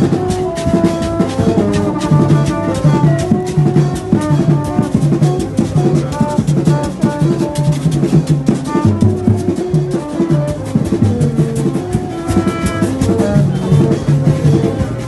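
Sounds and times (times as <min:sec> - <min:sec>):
drums and percussion beat: 0:00.0 - 0:15.0.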